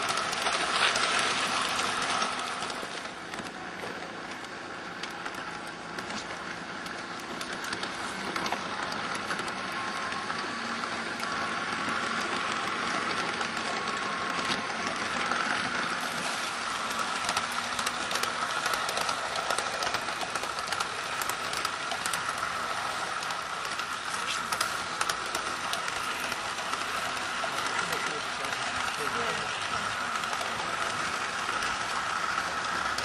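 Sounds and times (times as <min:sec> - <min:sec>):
model train motor whine: 0:00.0 - 0:33.0
wheels clicking on rails: 0:00.0 - 0:33.0.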